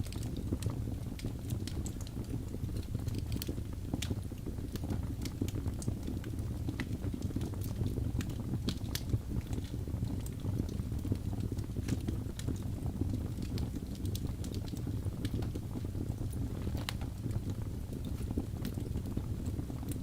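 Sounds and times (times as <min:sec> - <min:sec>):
logs crackling and popping: 0:00.0 - 0:20.0
low rumble of flame: 0:00.0 - 0:20.0.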